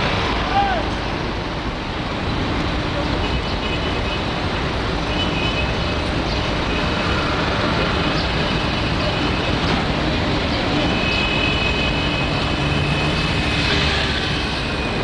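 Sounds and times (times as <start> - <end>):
ferry engines rumbling: 0.0 - 15.0.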